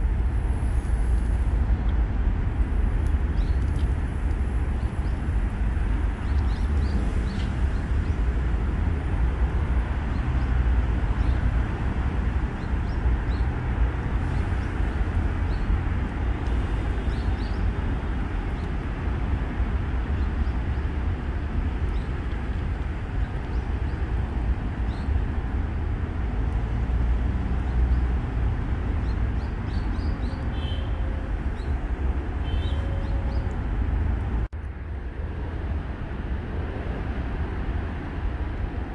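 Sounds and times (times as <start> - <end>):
low outdoor rumble: 0.0 - 38.9.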